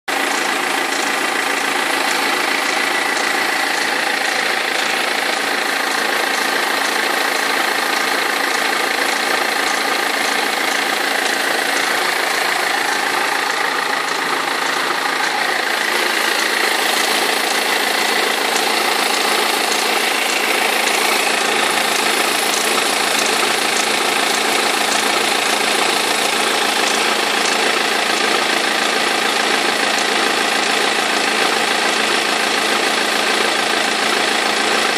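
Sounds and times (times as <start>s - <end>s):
diesel engine idling: 0.1s - 34.9s
knocking and rattling pulley: 0.2s - 34.9s.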